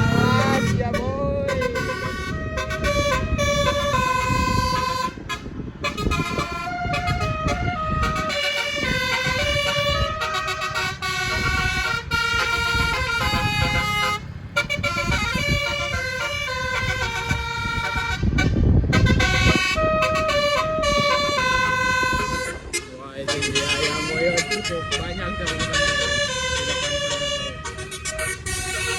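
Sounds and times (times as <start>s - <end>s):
bus horn playing a tune: 0.0s - 28.9s
low rumble of vehicle noise: 0.0s - 28.9s.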